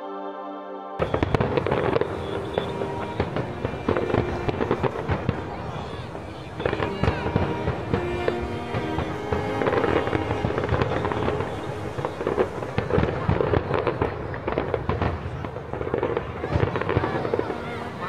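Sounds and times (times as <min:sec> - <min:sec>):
fireworks crackling and banging: 0:01.0 - 0:18.0.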